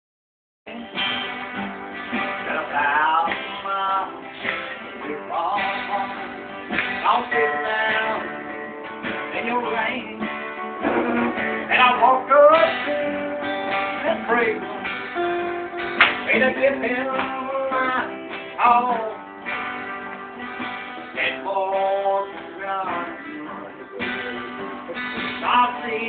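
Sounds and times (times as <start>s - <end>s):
acoustic guitars strummed: 0.7s - 26.0s
sliding guitar lead line: 0.7s - 26.0s.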